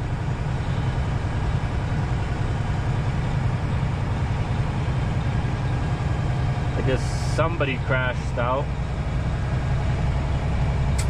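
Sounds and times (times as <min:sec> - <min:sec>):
diesel engine drone: 0:00.0 - 0:11.0
road noise: 0:00.0 - 0:11.0.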